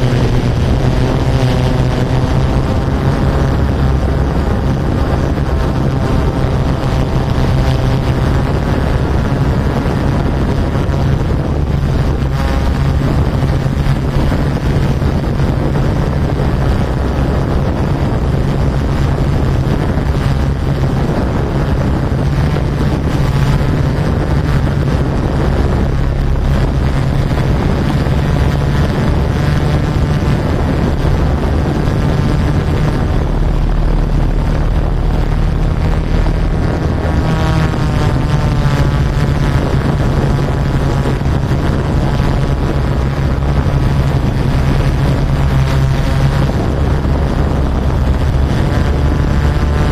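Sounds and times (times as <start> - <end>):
drone propellers buzzing: 0.0 - 49.9
wind buffeting microphone: 0.0 - 49.9.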